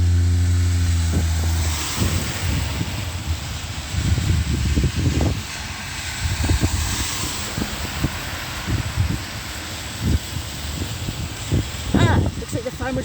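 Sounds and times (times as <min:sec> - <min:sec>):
car passing on wet road: 0:00.0 - 0:13.0
rain hiss: 0:00.0 - 0:13.0
wind buffeting microphone: 0:00.0 - 0:13.0.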